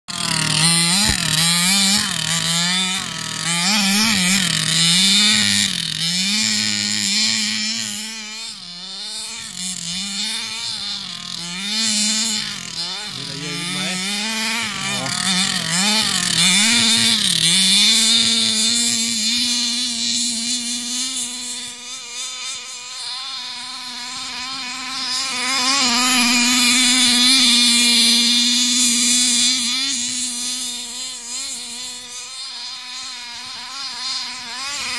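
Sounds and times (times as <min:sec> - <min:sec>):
small engine revving: 0:00.0 - 0:34.9.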